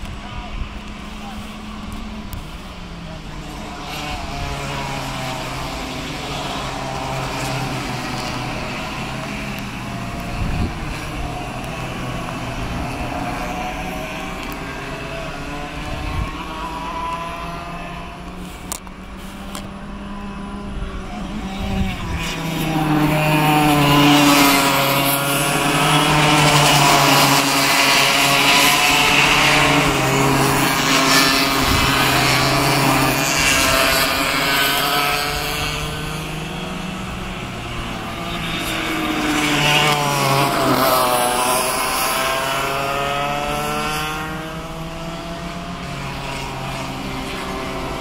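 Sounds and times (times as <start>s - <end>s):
racing kart engines revving: 0.0s - 48.0s.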